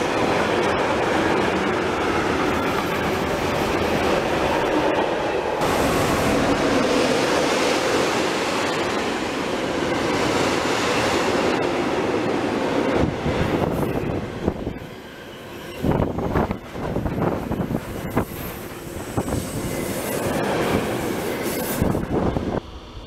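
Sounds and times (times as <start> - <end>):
freight train wheels rumbling on rails: 0.0 - 23.0.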